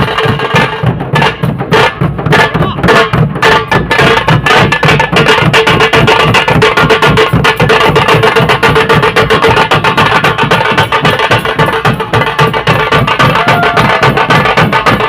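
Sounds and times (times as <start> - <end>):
fast hand drumming: 0.0 - 15.0
ringing drum tone: 0.0 - 15.0.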